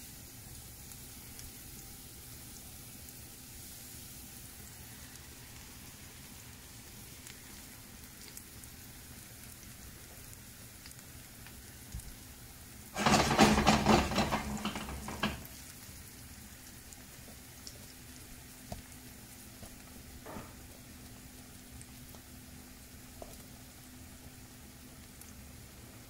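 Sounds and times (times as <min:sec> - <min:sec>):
mushroom sizzling in a skillet: 0:00.0 - 0:26.0.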